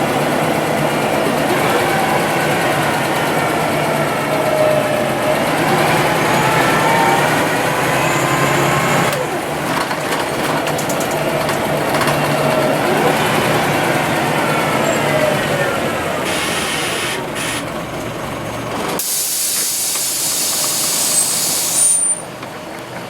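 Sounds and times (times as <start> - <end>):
bus engine whining: 0.0 - 23.0
road noise: 0.0 - 23.0.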